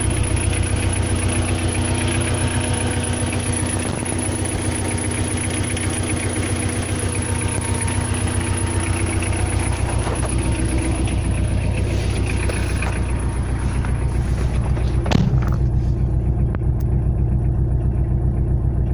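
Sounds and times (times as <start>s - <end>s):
car engine knocking: 0.0s - 18.9s.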